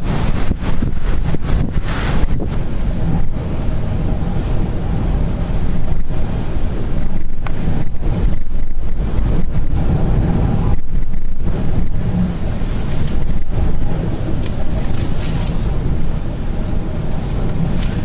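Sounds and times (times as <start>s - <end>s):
gusting wind buffeting microphone: 0.0s - 18.0s
rough sea and surf: 0.0s - 18.0s.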